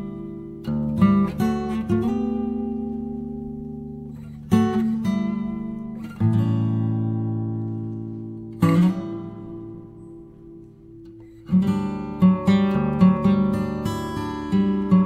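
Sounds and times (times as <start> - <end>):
acoustic guitar strumming and picking: 0.0 - 15.0.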